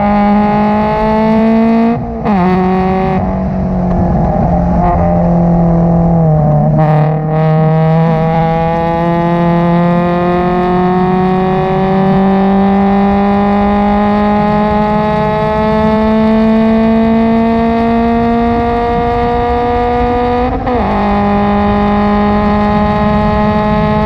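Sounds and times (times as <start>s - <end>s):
car engine at full throttle: 0.0s - 24.0s.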